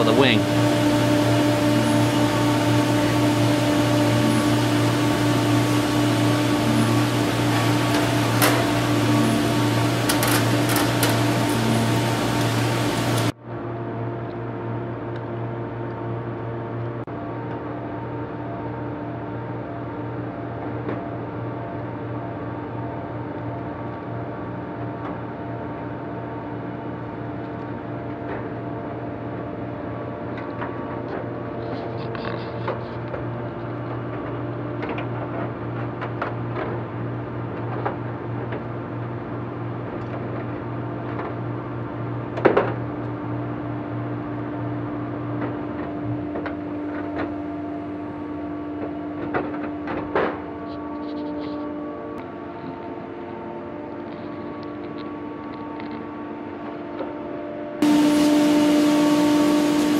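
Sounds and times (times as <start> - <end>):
workshop hum: 0.0 - 59.9.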